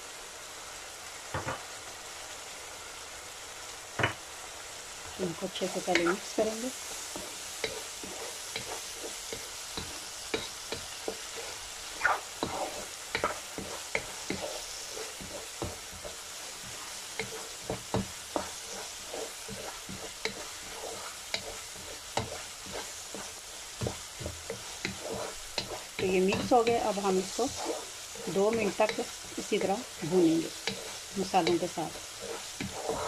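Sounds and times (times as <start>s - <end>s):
meat sizzling in oil: 0.0s - 33.0s
spatula scraping pan: 5.2s - 33.0s.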